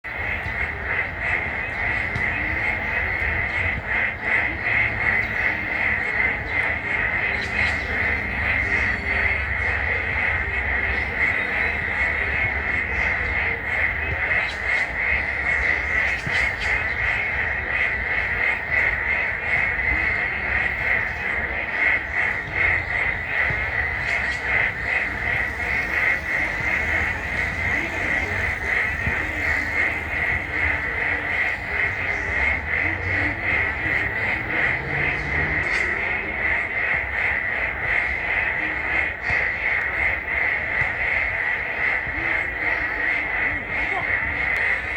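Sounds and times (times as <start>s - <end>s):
frogs chorus: 0.0s - 44.9s
low frog calls: 0.1s - 44.9s.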